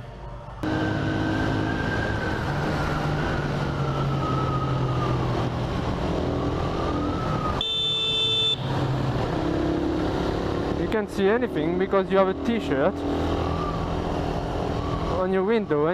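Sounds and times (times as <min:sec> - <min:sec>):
wind and road noise: 0:00.0 - 0:15.9.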